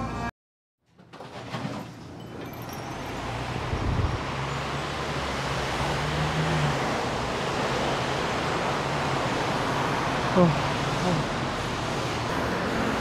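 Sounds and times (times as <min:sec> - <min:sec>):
vehicle engine hum: 0:02.0 - 0:13.0.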